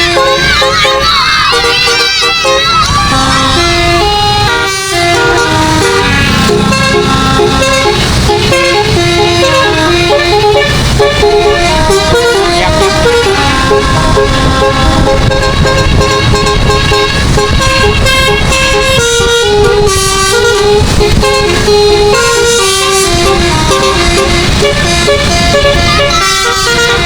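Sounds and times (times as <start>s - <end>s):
low vehicle rumble: 0.0s - 27.0s
musical air horn melody: 0.0s - 27.0s.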